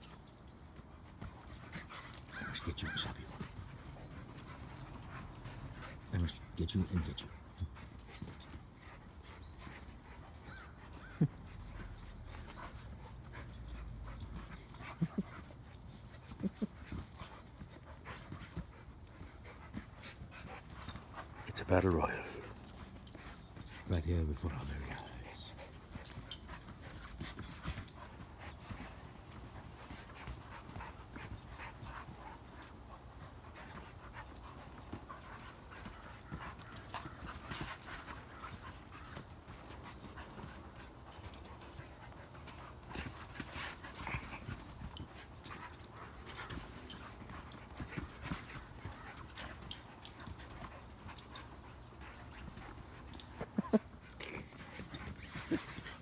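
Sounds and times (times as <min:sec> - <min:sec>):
dogs panting: 0:00.0 - 0:56.0
paws thumping on trampoline mat: 0:00.0 - 0:56.0.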